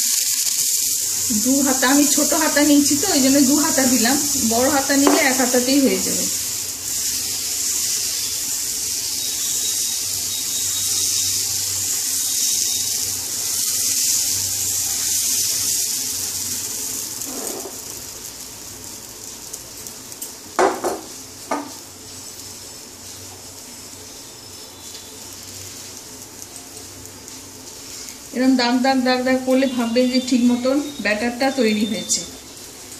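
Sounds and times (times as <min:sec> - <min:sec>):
batter sizzling on frying pan: 0:00.0 - 0:32.9.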